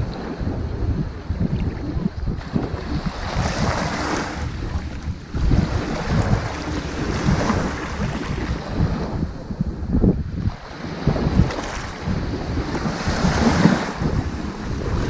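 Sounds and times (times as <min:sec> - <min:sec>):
ocean surf on sandy beach: 0:00.0 - 0:15.0
wind buffeting microphone: 0:00.0 - 0:15.0.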